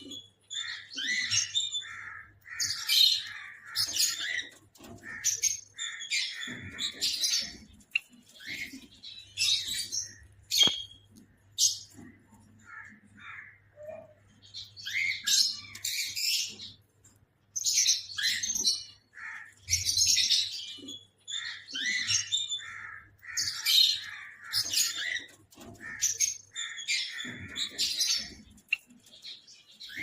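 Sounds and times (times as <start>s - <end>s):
caged birds squawking and chirping: 0.0s - 30.0s.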